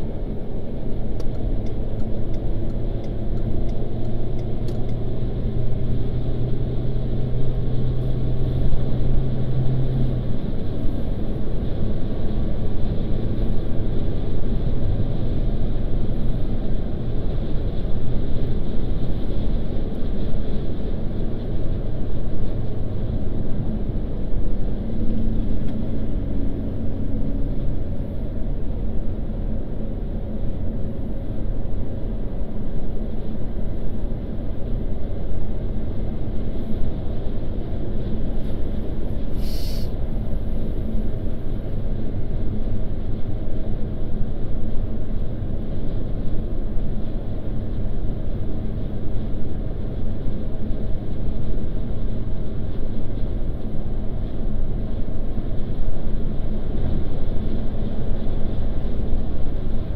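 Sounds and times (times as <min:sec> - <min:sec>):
car engine and tyre rumble: 0:00.0 - 0:59.9
low engine hum: 0:00.0 - 0:59.9.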